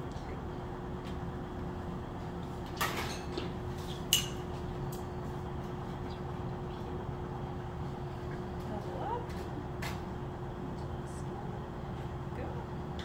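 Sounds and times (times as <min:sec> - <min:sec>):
low equipment hum: 0:00.0 - 0:13.0.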